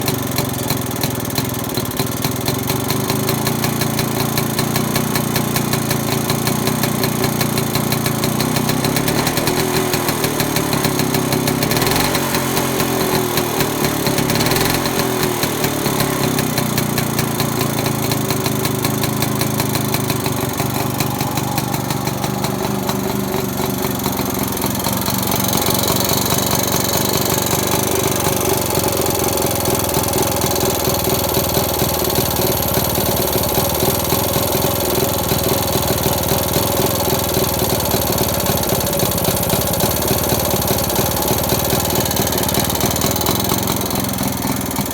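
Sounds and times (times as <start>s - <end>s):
two-stroke engine fast idle: 0.0s - 44.9s.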